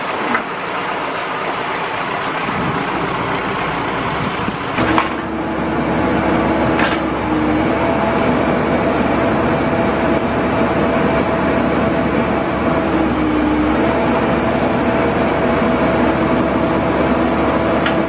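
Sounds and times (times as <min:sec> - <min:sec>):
diesel engine running: 0:00.0 - 0:18.0
steady whine: 0:00.0 - 0:18.0.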